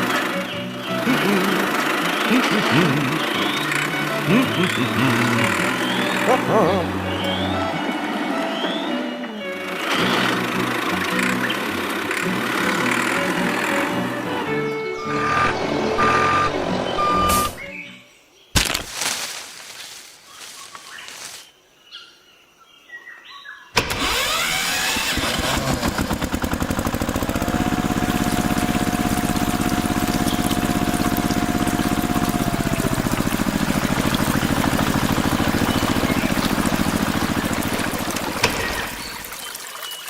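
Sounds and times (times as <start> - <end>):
small engine running: 0.0 - 17.6, 23.8 - 39.4.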